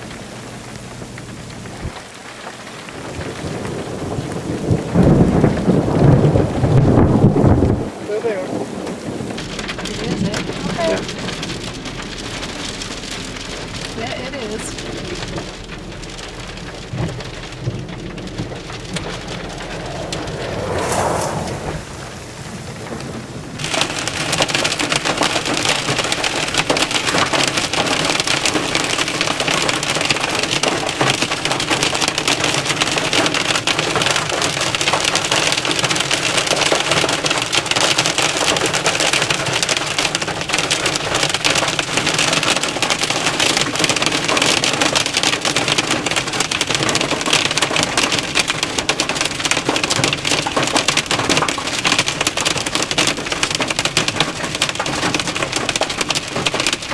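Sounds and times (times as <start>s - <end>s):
hail drumming on vehicle roof: 0.0s - 20.1s, 22.8s - 56.9s
rain falling: 0.0s - 56.9s
vehicle passing on wet road: 0.0s - 56.9s.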